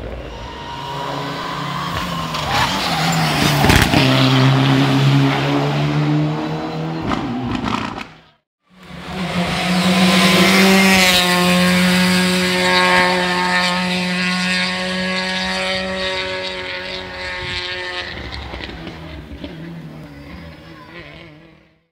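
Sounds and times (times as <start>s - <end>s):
rally car engine high revs: 1.2s - 21.8s.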